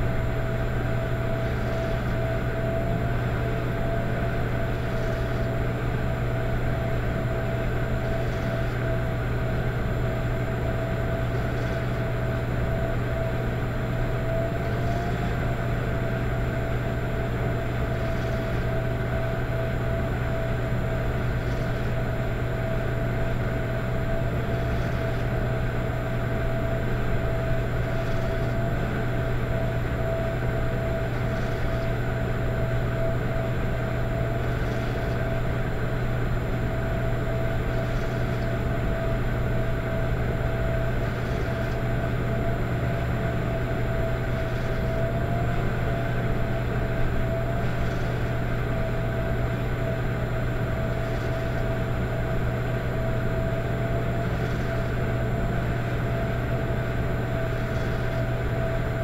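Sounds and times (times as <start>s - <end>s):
electric fireplace humming: 0.0s - 59.0s.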